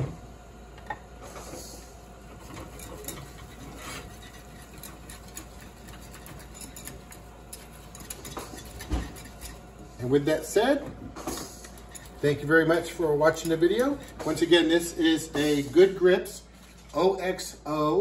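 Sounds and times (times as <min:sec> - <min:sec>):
whisk stirring and scraping: 0:01.4 - 0:17.0.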